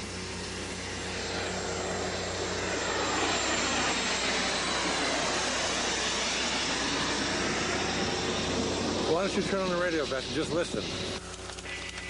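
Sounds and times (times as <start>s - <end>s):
aircraft flying low overhead: 0.0s - 12.0s.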